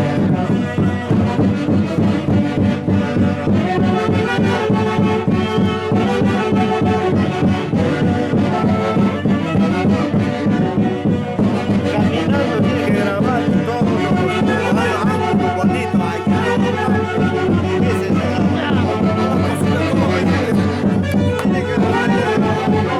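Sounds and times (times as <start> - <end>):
folk orchestra playing: 0.0 - 22.9.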